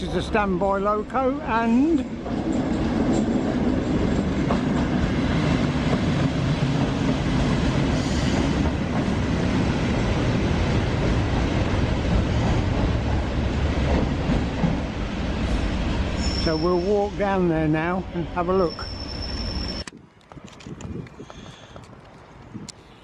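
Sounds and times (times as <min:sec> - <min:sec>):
train engine drone: 0:00.0 - 0:20.3.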